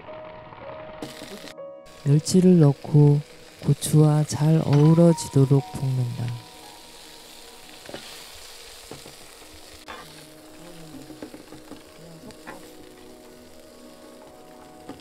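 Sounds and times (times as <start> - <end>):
food sizzling in oil: 1.0 - 15.0.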